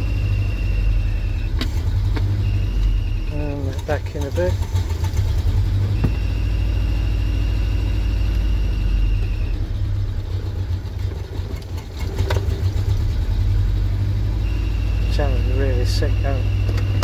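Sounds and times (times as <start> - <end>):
petrol engine misfiring: 0.0 - 17.0.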